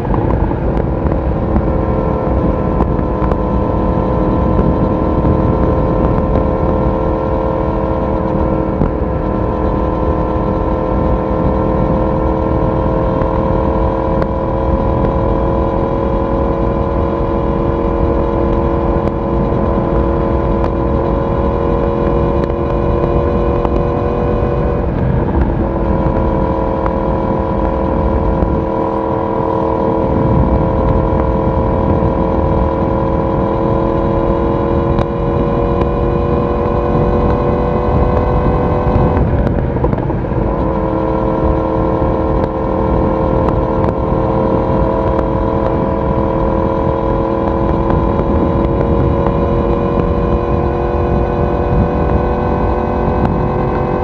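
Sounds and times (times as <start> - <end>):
motorcycle engine and exhaust: 0.0 - 54.0
wind noise: 0.0 - 54.0.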